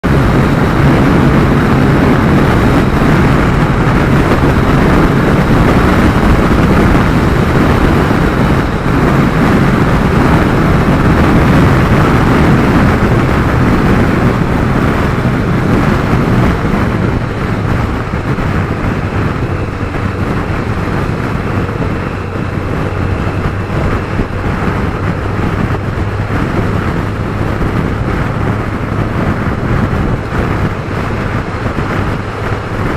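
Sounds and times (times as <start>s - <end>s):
motorcycle engine drone: 0.0s - 32.9s
road noise: 0.0s - 32.9s
wind rush: 0.0s - 32.9s.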